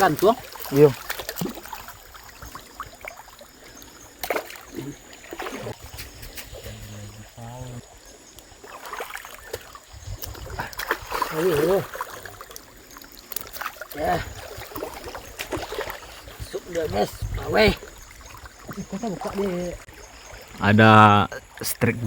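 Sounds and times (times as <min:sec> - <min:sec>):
water lapping around a boat: 0:00.0 - 0:21.7.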